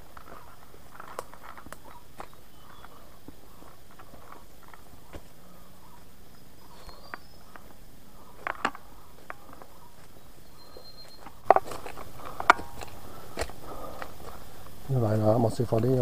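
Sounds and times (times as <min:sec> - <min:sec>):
footsteps on forest trail: 0:00.0 - 0:16.0
steady low hiss: 0:00.0 - 0:16.0.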